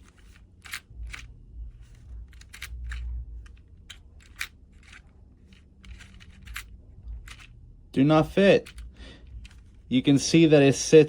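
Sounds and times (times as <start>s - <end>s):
low handling rumble: 0.0s - 10.8s.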